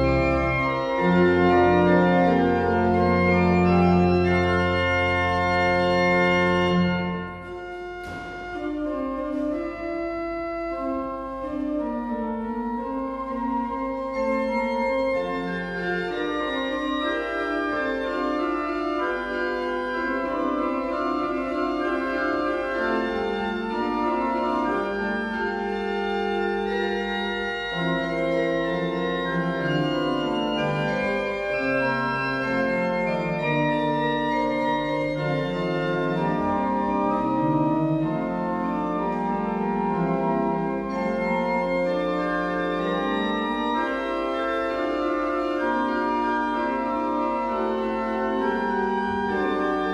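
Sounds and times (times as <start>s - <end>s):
church organ playing chords: 0.0s - 49.9s.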